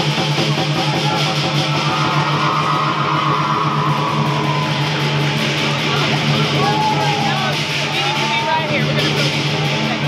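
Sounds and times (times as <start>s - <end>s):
fast percussion strokes: 0.0s - 10.0s.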